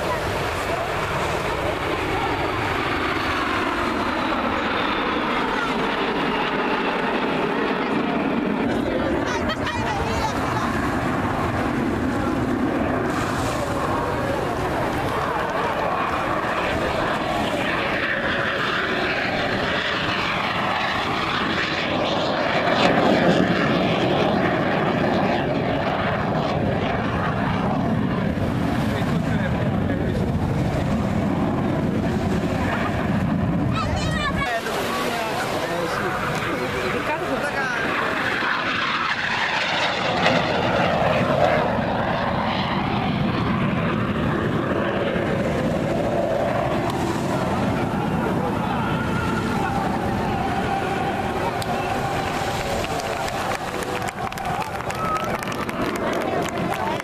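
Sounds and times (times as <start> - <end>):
airplane engine passing: 0.0 - 57.0.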